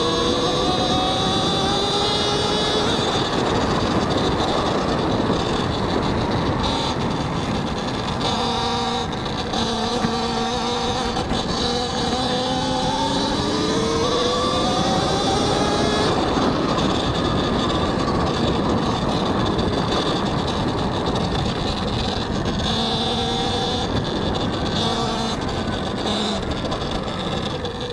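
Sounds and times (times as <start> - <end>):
electric motor whining: 0.0 - 27.9.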